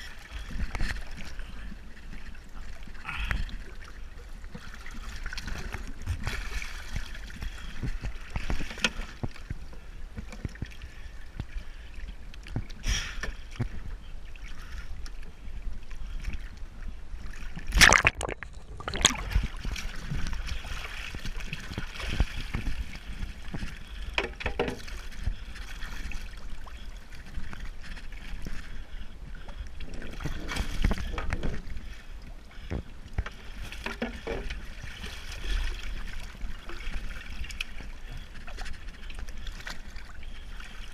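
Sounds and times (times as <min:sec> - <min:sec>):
seawater sloshing and splashing: 0:00.0 - 0:40.9.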